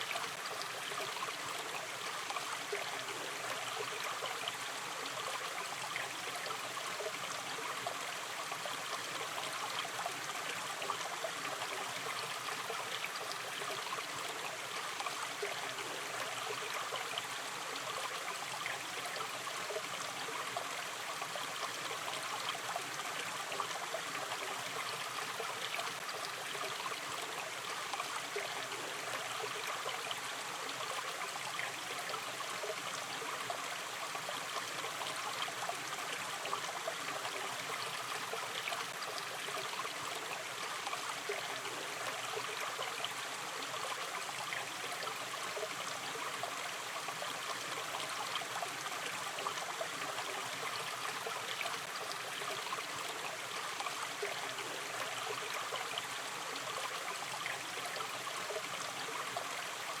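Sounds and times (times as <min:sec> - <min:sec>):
stream trickling over stones: 0:00.0 - 1:00.0.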